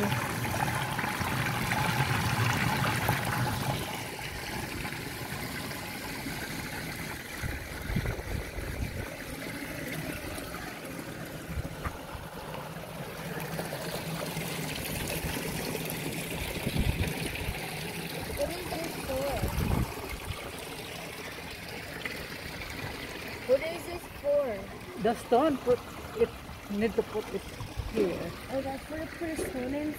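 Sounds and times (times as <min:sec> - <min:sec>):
water trickling through flume: 0:00.0 - 0:29.9.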